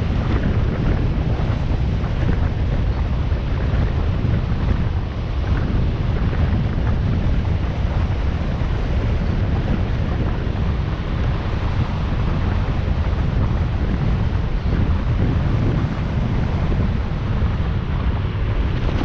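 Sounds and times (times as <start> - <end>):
motorcycle engine and road noise: 0.0 - 19.0
wind buffeting microphone: 0.0 - 19.0.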